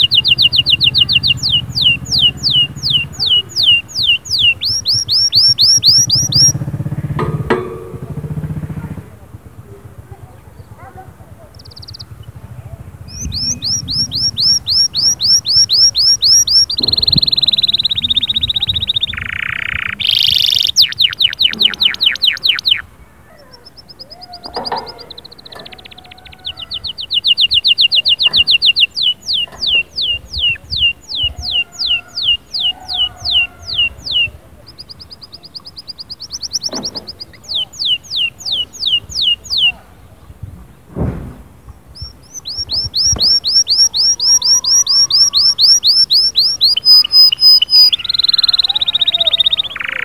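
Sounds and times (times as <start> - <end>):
canary singing trills: 0.0 - 40.5, 41.6 - 50.0.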